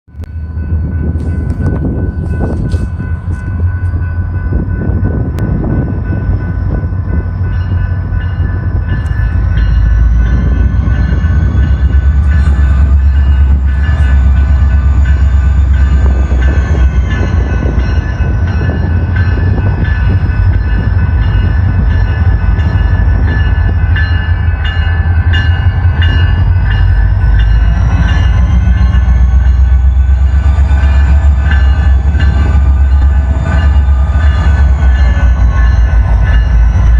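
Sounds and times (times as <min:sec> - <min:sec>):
locomotive engine rumble: 0:00.1 - 0:36.9.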